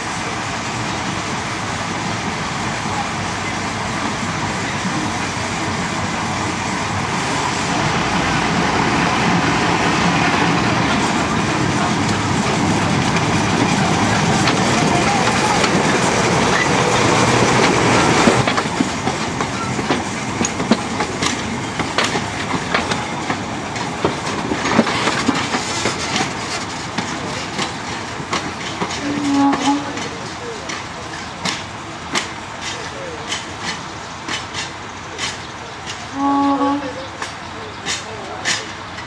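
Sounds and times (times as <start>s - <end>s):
diesel locomotive engine under load: 0.0s - 39.0s
train wheels clicking over rail joints: 3.7s - 39.0s.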